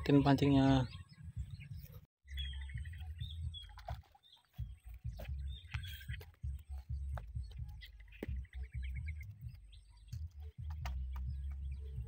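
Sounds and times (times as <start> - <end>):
bird trilling chirps: 0.0 - 12.0.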